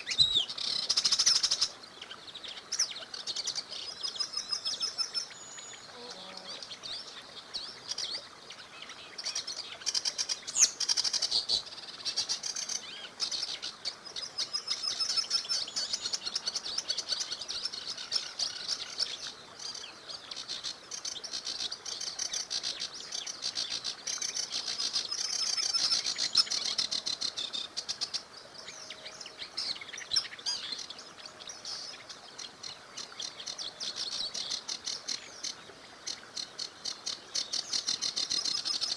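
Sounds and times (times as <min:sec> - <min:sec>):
songbirds trilling and chirping: 0:00.0 - 0:38.9.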